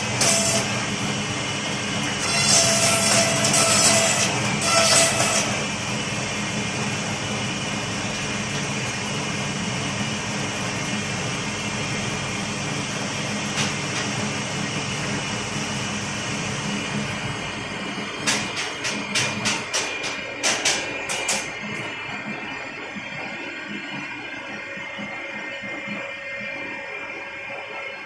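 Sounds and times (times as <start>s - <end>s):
machine motor hum and hiss: 0.0s - 28.0s.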